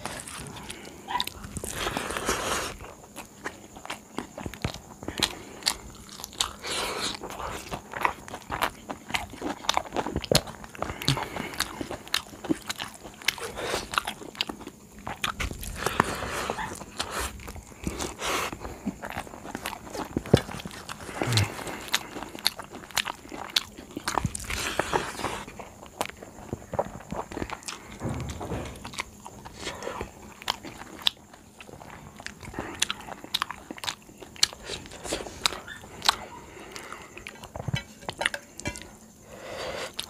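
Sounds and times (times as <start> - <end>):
food crunching: 0.0 - 39.2
person chewing food: 0.0 - 40.0.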